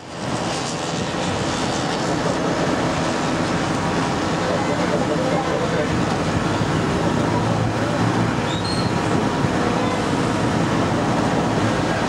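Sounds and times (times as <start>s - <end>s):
dense outdoor noise: 0.0s - 12.0s.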